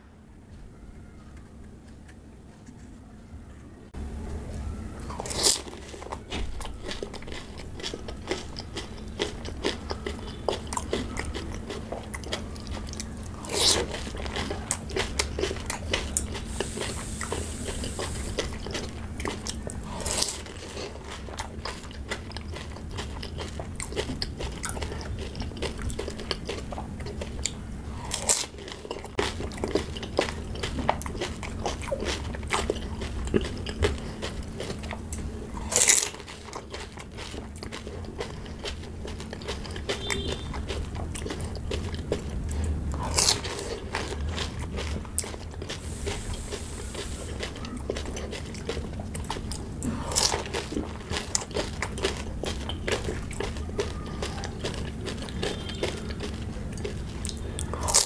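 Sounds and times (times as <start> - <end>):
crunching and chewing food: 0.7 - 58.0.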